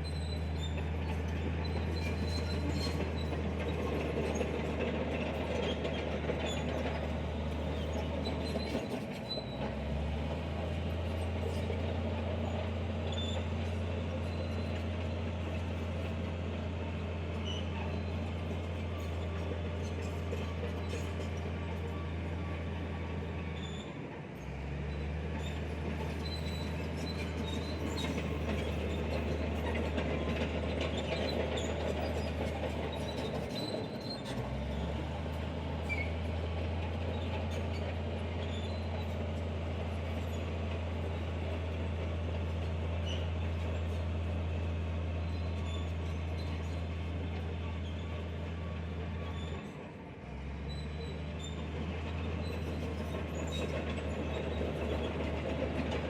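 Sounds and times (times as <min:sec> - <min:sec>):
bulldozer diesel drone: 0:00.0 - 0:56.0
steel tracks clattering and squealing: 0:00.0 - 0:56.0.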